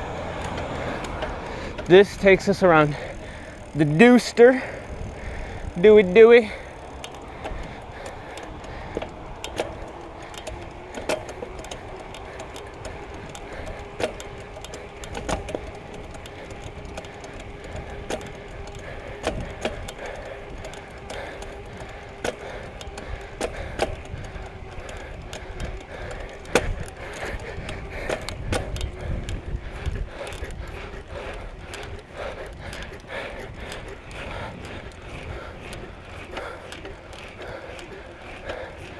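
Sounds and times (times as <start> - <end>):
bicycle clicks and rattles: 0.0 - 38.9.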